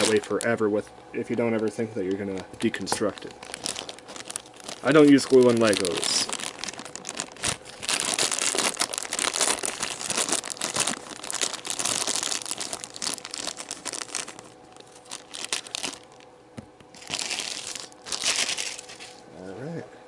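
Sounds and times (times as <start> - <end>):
packaging crinkling and rustling: 0.0 - 0.7, 1.4 - 16.3, 16.9 - 19.2.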